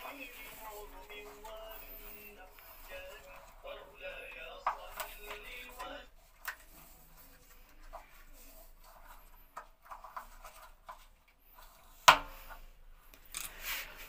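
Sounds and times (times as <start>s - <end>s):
tape rubbing and crinkling: 0.0s - 14.0s.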